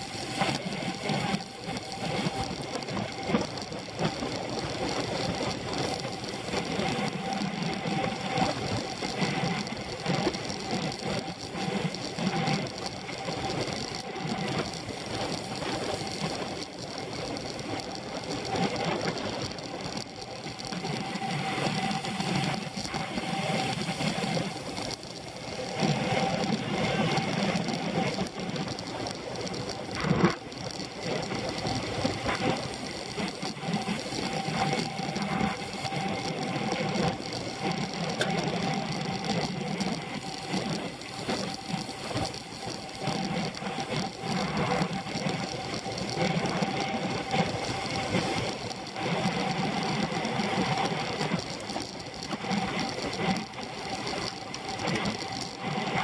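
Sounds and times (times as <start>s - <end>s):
road vibration rattling buzz: 0.0s - 56.0s
tyre and wind noise: 0.0s - 56.0s.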